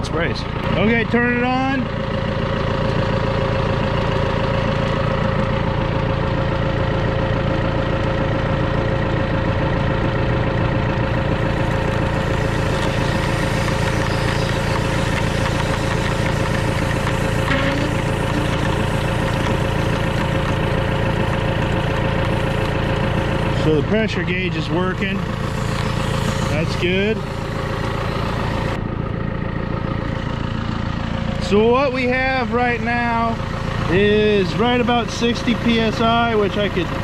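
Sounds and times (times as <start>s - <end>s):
tractor engine running: 0.0s - 37.0s
steady pump tone: 0.4s - 37.0s.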